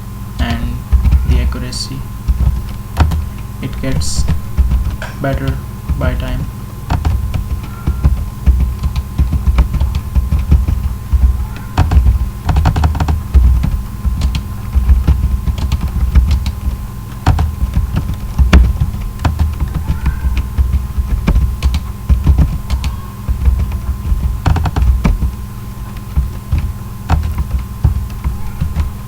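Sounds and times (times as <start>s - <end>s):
keyboard typing: 0.0s - 29.0s.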